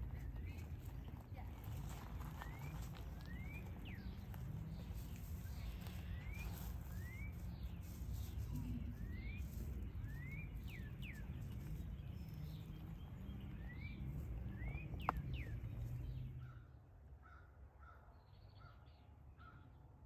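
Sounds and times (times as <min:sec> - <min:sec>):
low steady rumble: 0:00.0 - 0:17.8
birds calling: 0:00.0 - 0:19.8.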